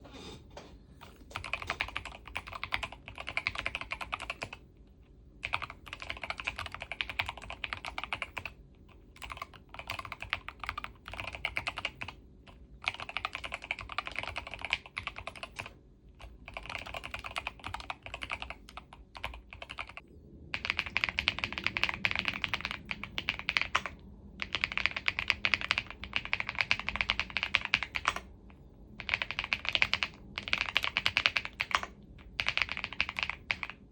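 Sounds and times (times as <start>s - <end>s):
fast typing on keyboard: 1.1s - 4.6s, 5.4s - 28.3s, 29.0s - 33.9s.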